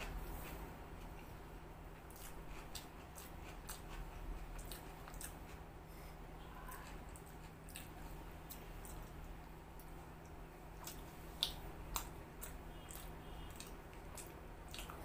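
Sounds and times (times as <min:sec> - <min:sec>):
chewing and mouth sounds: 0:00.0 - 0:05.7, 0:06.6 - 0:15.0
faint low hum: 0:00.0 - 0:15.0.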